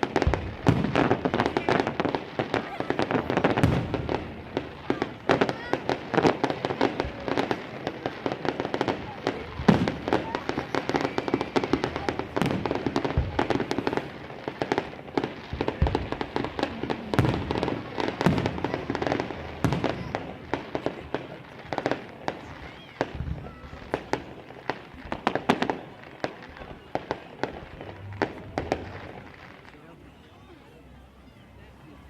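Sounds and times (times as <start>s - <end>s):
deep firework bangs: 0.0s - 29.8s
fireworks crackling and popping: 0.0s - 30.4s.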